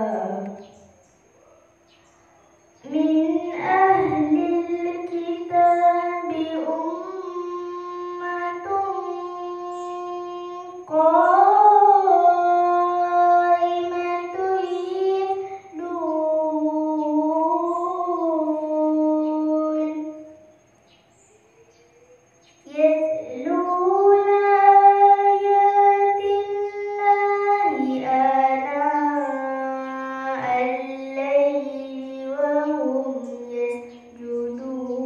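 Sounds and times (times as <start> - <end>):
girl chanting melodically: 0.0 - 1.3, 2.6 - 20.7, 22.5 - 35.0.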